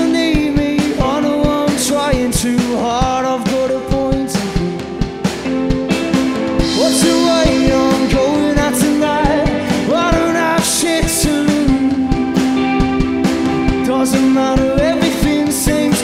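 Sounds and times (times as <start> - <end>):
sung vocals: 0.0 - 5.6, 6.5 - 16.0
rock band playing live: 0.0 - 16.0.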